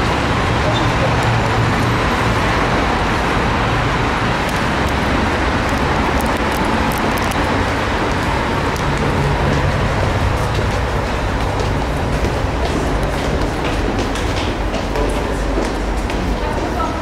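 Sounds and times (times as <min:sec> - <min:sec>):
low engine hum: 0:00.0 - 0:16.9
road traffic: 0:00.0 - 0:17.0.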